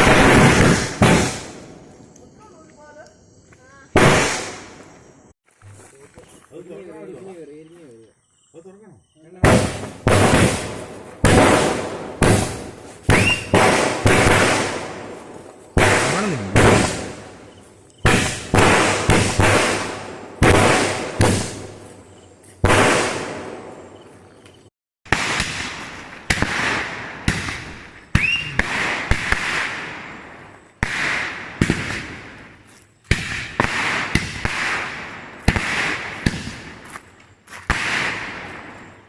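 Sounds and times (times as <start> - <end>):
firecrackers banging: 0.0 - 2.6, 3.9 - 5.0, 9.4 - 24.0, 25.1 - 39.0.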